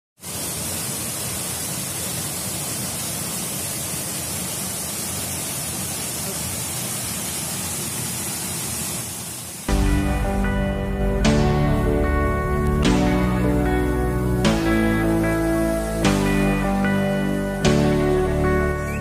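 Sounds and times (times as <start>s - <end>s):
flowing water rushing: 0.2s - 19.0s.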